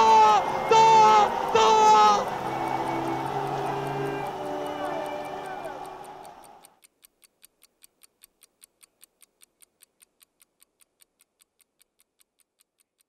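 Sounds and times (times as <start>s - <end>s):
faint mechanical ticking: 0.0s - 13.0s.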